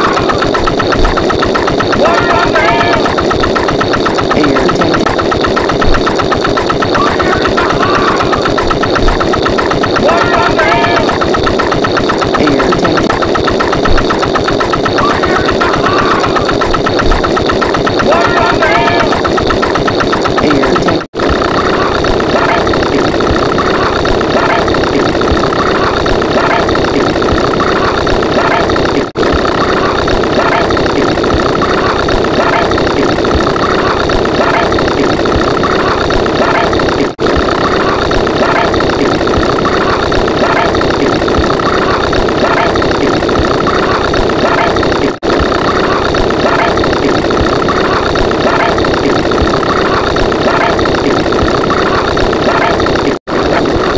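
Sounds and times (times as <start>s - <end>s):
engine-like sound effect: 0.0s - 53.9s.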